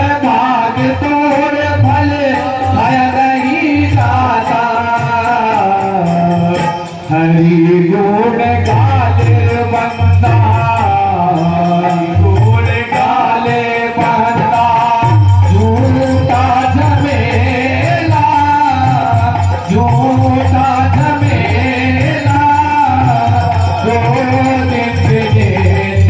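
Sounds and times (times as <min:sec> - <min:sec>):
devotional music over loudspeakers: 0:00.0 - 0:26.0
jingling hand percussion: 0:00.0 - 0:26.0
steady drum beat: 0:00.0 - 0:26.0.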